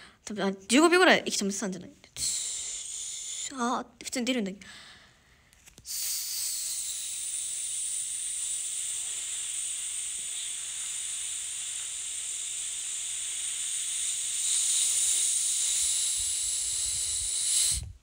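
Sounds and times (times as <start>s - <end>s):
person breathing out slowly: 2.2s - 3.5s, 4.6s - 18.0s.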